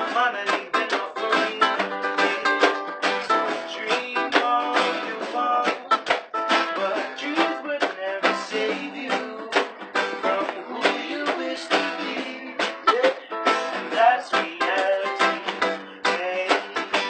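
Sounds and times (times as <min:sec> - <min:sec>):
guitars and ukulele strummed: 0:00.0 - 0:17.0.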